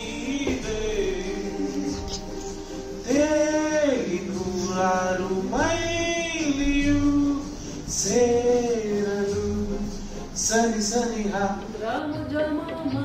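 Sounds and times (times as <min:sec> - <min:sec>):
man singing into a microphone: 0:00.0 - 0:02.5, 0:03.1 - 0:13.0.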